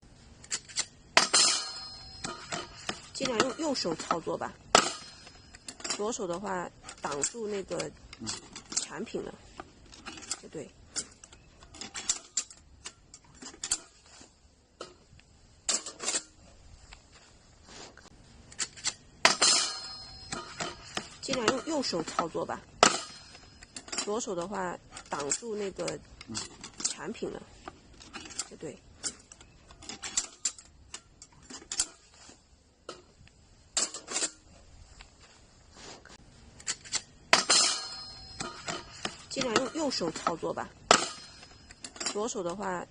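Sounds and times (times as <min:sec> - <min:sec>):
metal parts clinking and rattling: 0:00.4 - 0:15.0, 0:15.6 - 0:17.2, 0:18.4 - 0:33.1, 0:33.7 - 0:35.2, 0:36.5 - 0:42.7.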